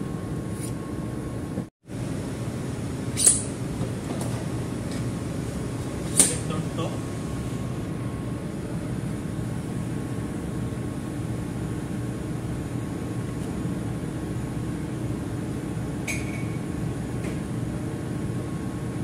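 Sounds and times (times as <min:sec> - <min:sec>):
machinery and ventilation hum: 0:00.0 - 0:19.0.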